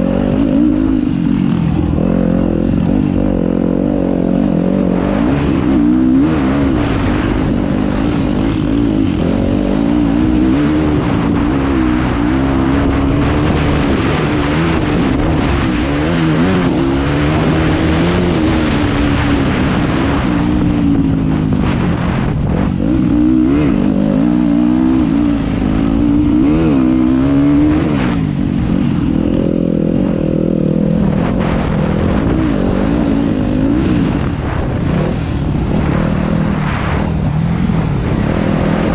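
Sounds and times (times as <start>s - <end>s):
motocross bike engine revving: 0.0s - 38.9s
rushing noise: 0.0s - 38.9s.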